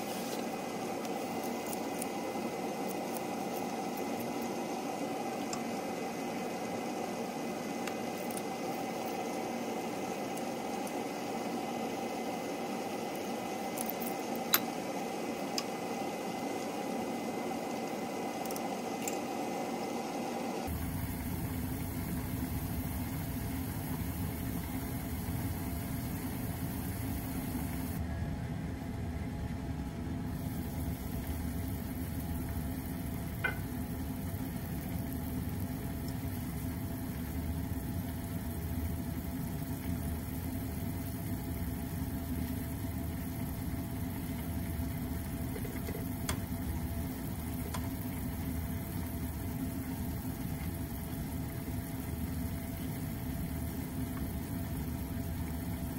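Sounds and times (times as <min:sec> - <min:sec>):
pot bubbling: 0:00.0 - 0:19.8, 0:20.6 - 0:28.0, 0:30.3 - 0:55.9.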